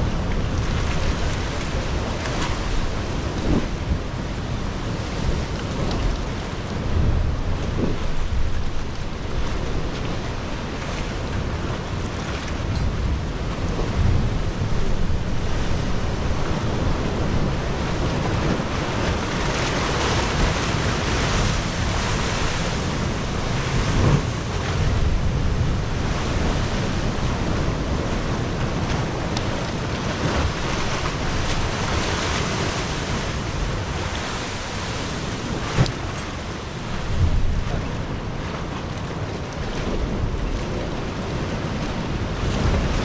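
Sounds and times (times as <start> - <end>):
sea surf breaking through rocks: 0.0 - 43.0
wind buffeting microphone: 0.0 - 43.0.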